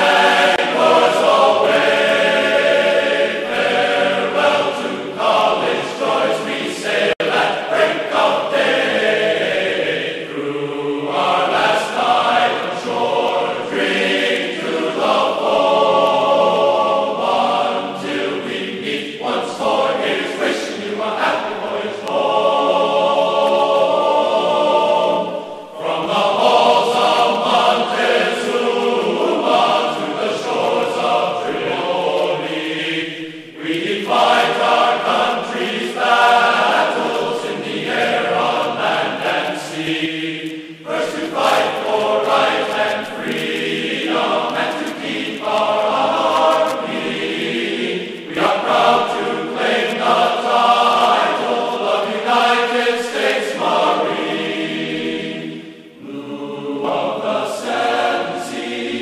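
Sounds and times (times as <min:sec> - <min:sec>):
background music: 0:00.0 - 0:59.0
choir singing slow song: 0:00.0 - 0:59.0.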